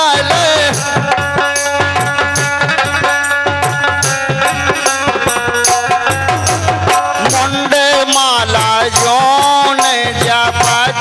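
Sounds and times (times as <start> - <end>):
hand drums beating: 0.0 - 11.0.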